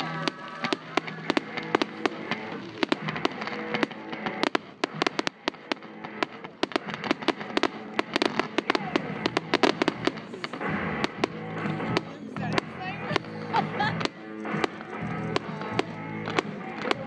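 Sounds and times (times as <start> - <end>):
fireworks bangs and cracks: 0.0 - 17.0
music playing: 0.0 - 17.0.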